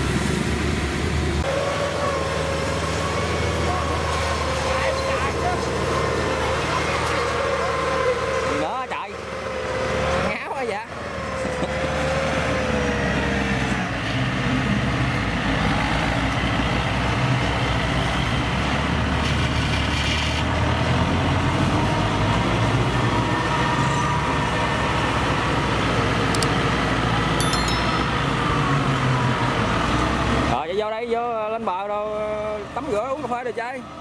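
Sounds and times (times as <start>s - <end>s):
tracked vehicle engines running: 0.0s - 34.0s.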